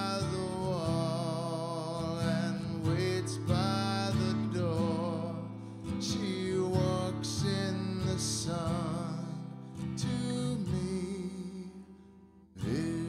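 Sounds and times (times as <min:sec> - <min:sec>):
man singing: 0:00.0 - 0:12.0, 0:12.6 - 0:13.0
strummed acoustic guitar: 0:00.0 - 0:13.0.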